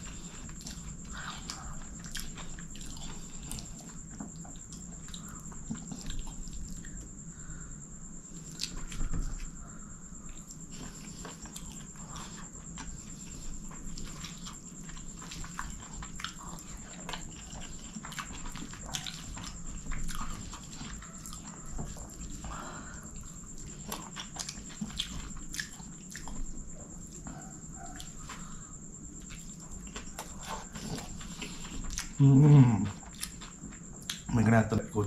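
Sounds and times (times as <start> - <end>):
chewing with wet mouth clicks: 0.0 - 7.1, 10.3 - 28.6, 29.2 - 32.2, 33.0 - 34.3.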